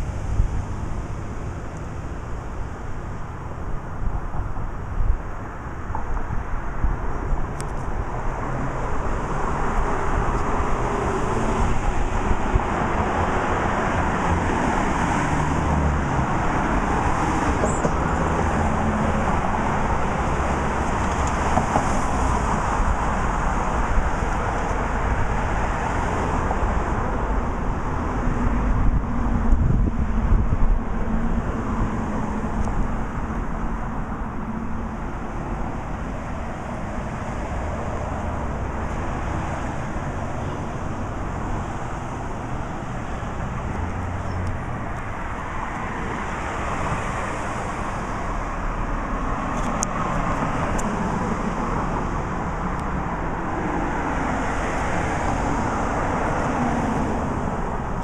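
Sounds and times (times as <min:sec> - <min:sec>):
cars passing on road: 0:00.0 - 0:58.0.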